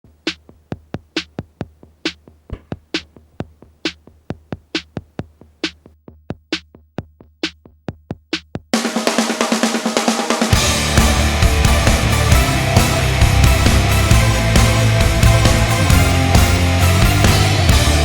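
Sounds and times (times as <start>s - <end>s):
drum machine beat: 0.1s - 18.0s.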